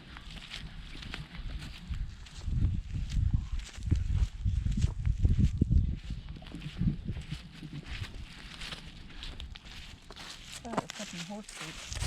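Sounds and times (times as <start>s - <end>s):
bare feet walking on dirt: 0.0s - 12.0s.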